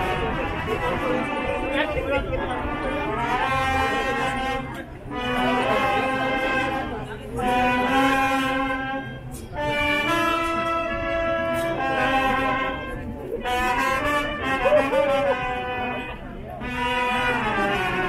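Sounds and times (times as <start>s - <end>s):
brass band playing slow melody: 0.0s - 18.0s.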